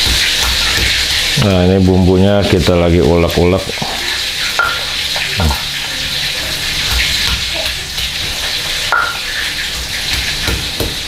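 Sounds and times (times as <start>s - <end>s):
deep-frying sizzle: 0.0s - 11.0s.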